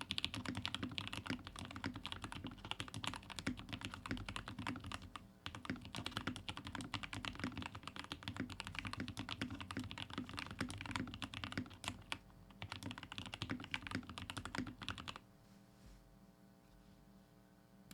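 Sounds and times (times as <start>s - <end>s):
fast mechanical keyboard typing: 0.0s - 15.2s
faint steady hum: 0.0s - 17.9s.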